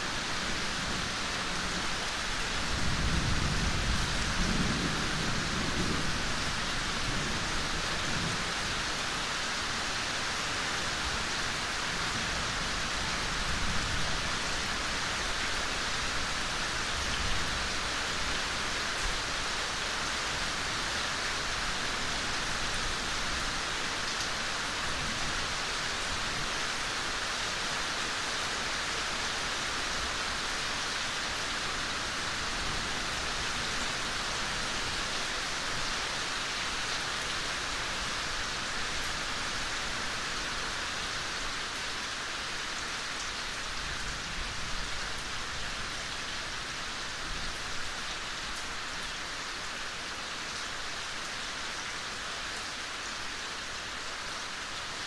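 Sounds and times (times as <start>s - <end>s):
gentle rain hissing: 0.0s - 55.0s.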